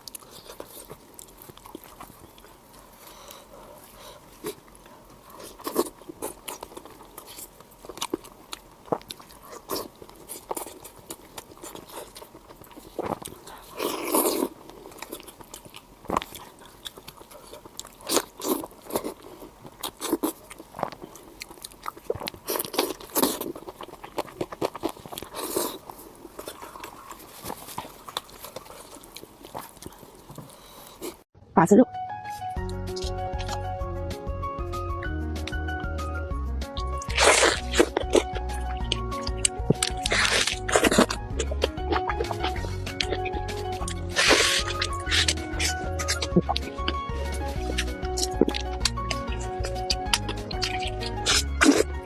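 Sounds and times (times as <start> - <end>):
crunchy chewing: 0.0 - 31.3, 32.6 - 33.6, 36.8 - 52.0.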